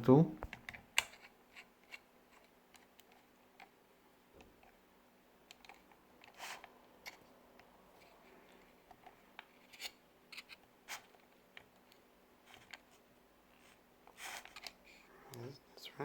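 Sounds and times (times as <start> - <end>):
small parts clicking and scraping: 0.5 - 3.8, 5.4 - 15.0.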